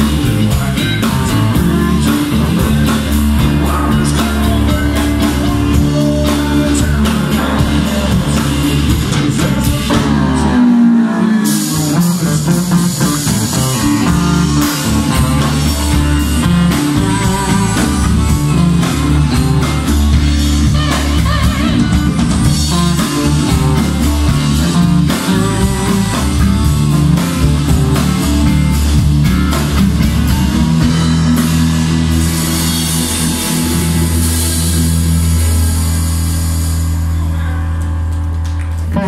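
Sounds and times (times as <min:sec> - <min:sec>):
live rock band: 0:00.0 - 0:39.0.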